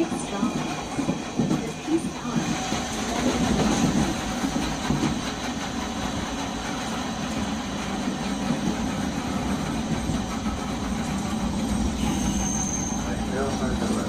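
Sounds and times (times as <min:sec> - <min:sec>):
tram rumble and hum: 0:00.0 - 0:14.0.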